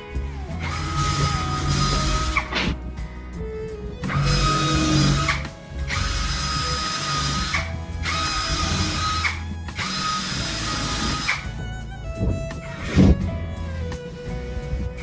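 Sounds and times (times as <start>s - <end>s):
electric power tool whining: 0.0s - 15.0s.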